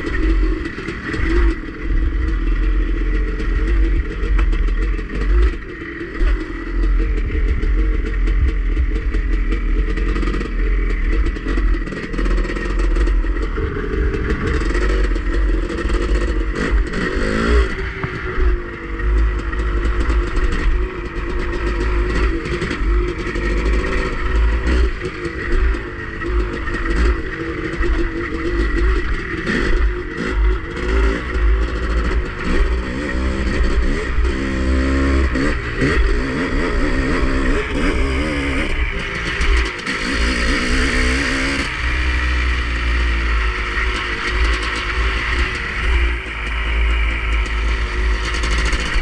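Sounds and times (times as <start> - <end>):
off-road vehicle engine revving: 0.0 - 49.0.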